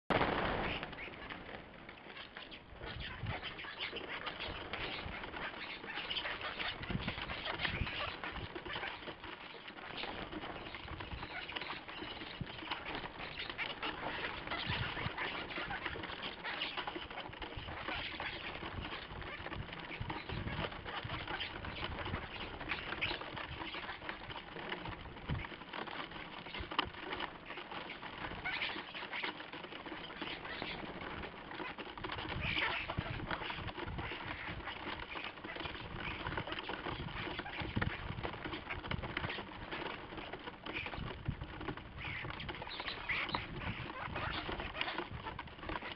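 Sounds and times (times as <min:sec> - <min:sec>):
starlings chattering: 0:00.1 - 0:24.1, 0:26.4 - 0:39.9, 0:41.7 - 0:45.9
wings flapping: 0:00.1 - 0:45.9.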